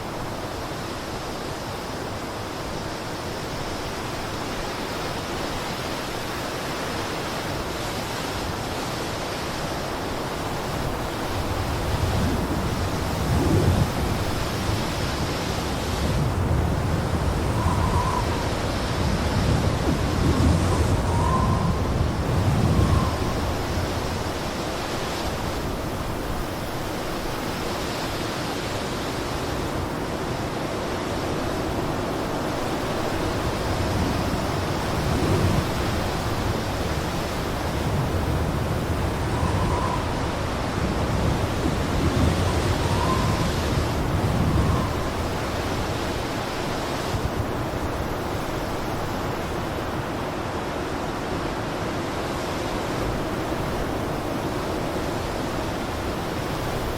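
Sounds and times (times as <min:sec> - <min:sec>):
blizzard wind rushing: 0:00.0 - 0:56.9
faint wind whistles: 0:00.0 - 0:56.9.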